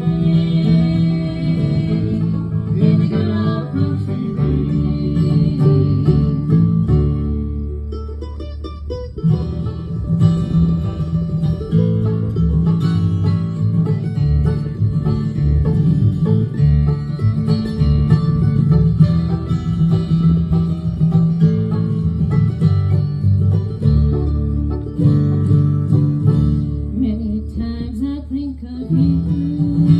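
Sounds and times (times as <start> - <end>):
acoustic guitar: 0.0 - 29.9
plucked banjo: 0.0 - 29.9
upright bass line: 0.0 - 29.9.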